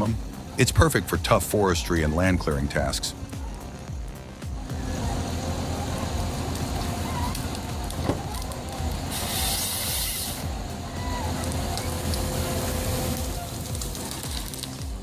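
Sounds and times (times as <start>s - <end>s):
heavy machinery rumbling: 0.0s - 15.0s
loud hiss: 0.0s - 15.0s.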